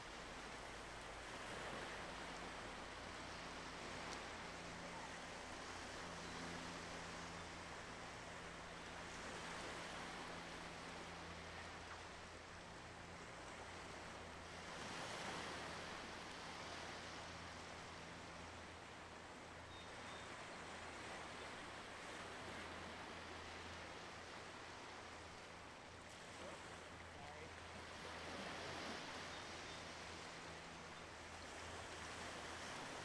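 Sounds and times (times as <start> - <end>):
sea waves washing on shore: 0.0 - 33.0.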